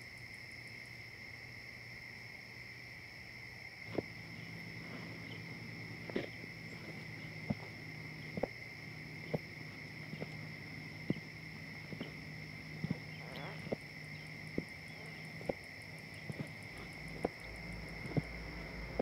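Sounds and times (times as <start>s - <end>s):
crickets and insects chirping: 0.0s - 19.0s
low steady hum: 0.0s - 19.0s.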